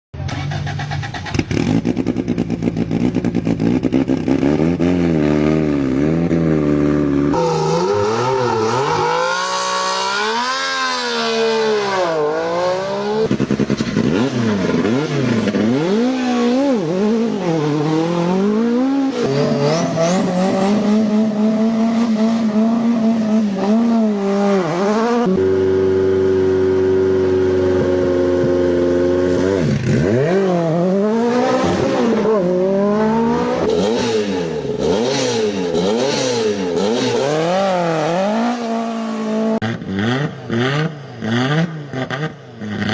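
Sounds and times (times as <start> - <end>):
rally car engines revving: 0.2 - 42.9.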